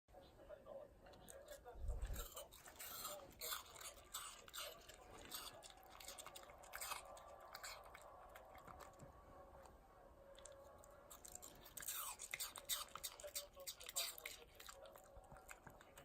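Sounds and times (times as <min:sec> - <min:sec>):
dog crunching apple: 0:01.1 - 0:09.7, 0:10.3 - 0:16.0.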